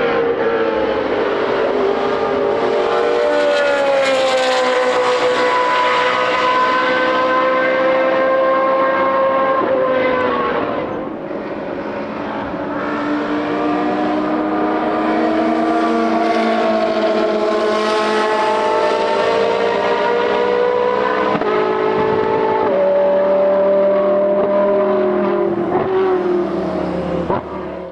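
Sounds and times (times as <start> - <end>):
racing car engines revving: 0.0 - 27.9.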